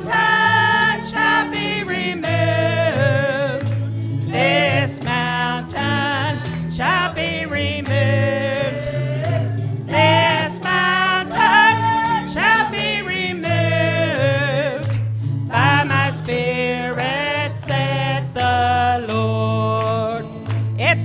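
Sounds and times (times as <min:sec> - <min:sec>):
bass guitar: 0:00.0 - 0:21.0
hands clapping on the beat: 0:00.0 - 0:21.0
tambourine jingling: 0:00.0 - 0:21.0
woman singing gospel lead: 0:00.0 - 0:21.0.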